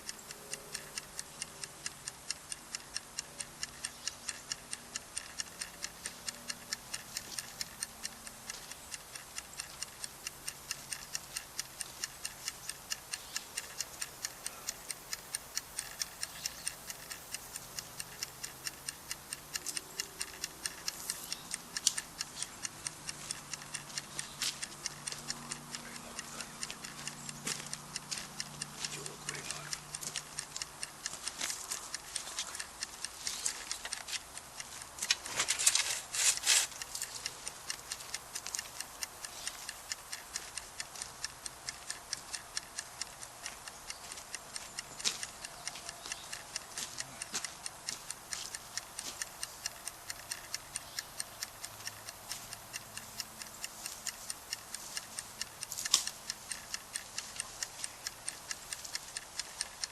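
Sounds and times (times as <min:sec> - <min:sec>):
steady mechanical ticking: 0:00.0 - 0:59.9.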